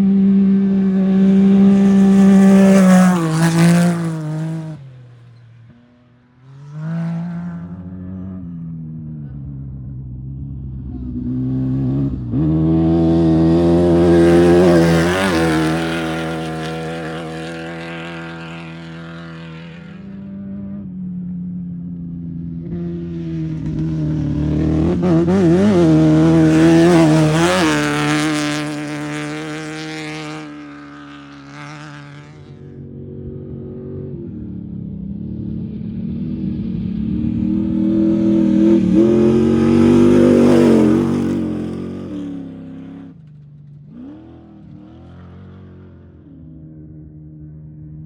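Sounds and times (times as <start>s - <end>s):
off-road vehicles passing: 0.0s - 48.0s.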